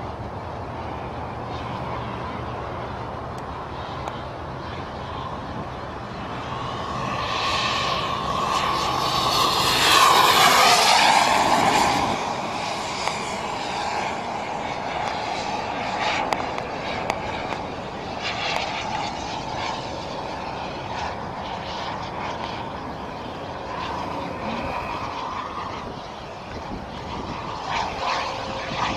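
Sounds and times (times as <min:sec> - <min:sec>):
model jet turbine whining: 0:00.0 - 0:28.9.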